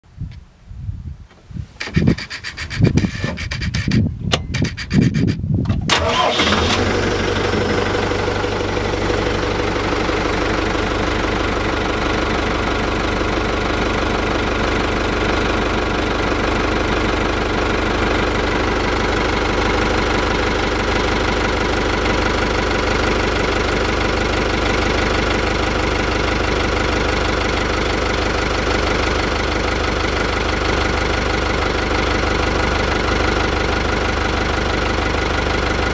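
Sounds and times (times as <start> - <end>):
boat engine cranking and idling: 1.8 - 35.9.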